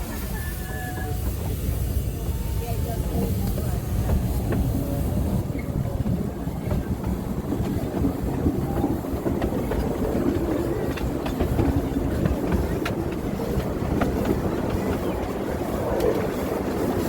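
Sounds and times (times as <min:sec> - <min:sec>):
train rumbling along track: 0:00.0 - 0:17.0.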